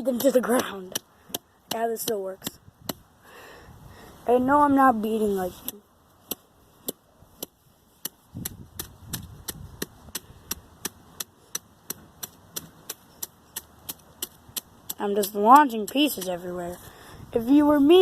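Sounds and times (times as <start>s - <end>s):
stick striking weeds: 0.0s - 3.1s, 5.4s - 16.8s.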